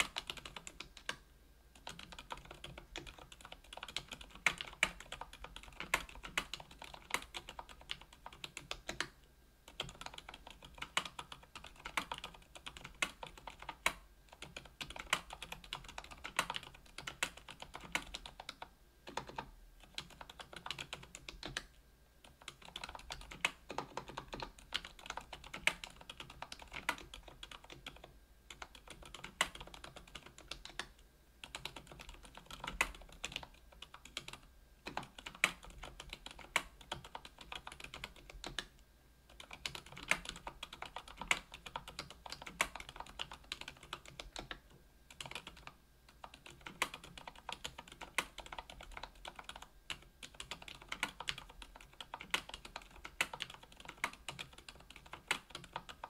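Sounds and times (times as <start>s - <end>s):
mechanical keyboard typing: 0.0s - 1.2s, 1.8s - 38.7s, 39.3s - 56.0s.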